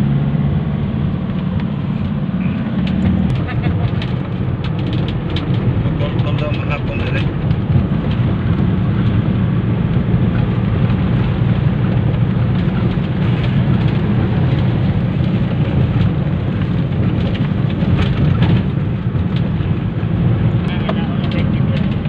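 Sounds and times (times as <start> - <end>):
vehicle cabin road noise: 0.0 - 22.0.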